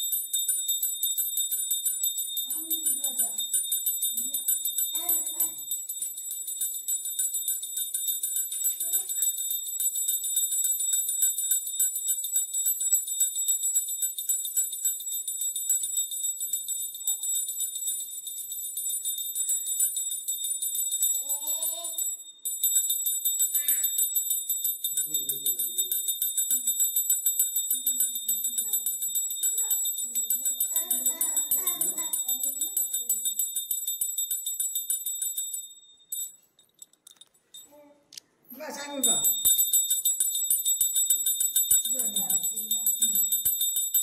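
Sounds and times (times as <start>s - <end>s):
brass handbell ringing quickly: 0.0s - 36.3s, 39.0s - 44.0s.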